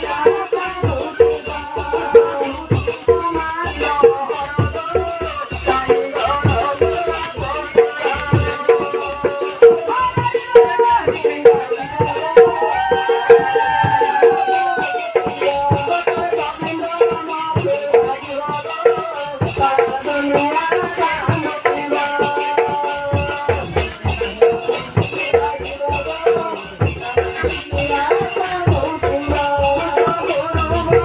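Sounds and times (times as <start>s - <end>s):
barrel drum beat: 0.0s - 31.0s
person singing through microphone: 0.0s - 31.0s
rattling hand percussion: 0.0s - 31.0s.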